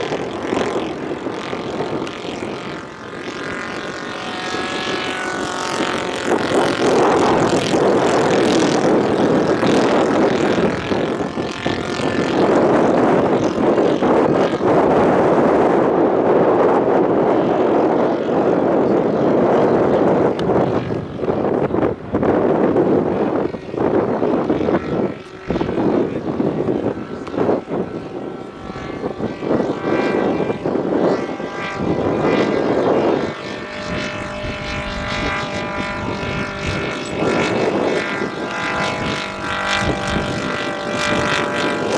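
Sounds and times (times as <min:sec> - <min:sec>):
model airplane engine droning: 0:00.0 - 0:41.9.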